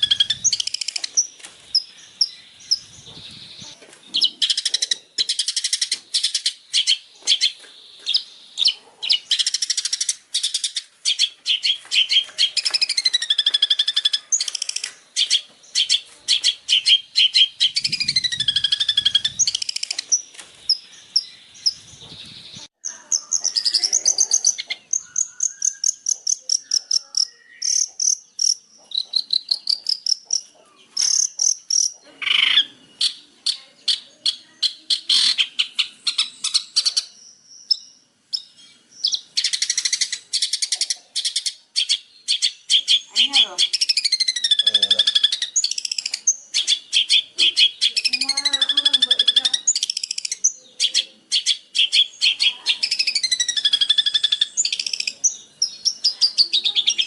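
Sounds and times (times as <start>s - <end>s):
songbird singing trills and whistles: 0.0s - 57.0s.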